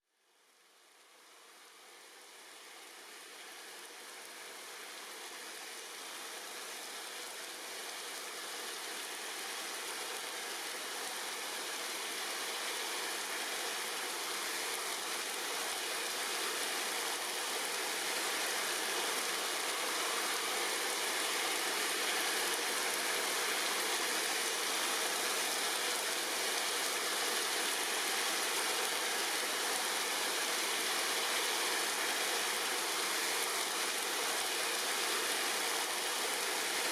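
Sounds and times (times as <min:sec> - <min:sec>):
rain falling on leaves: 0:00.5 - 0:36.9.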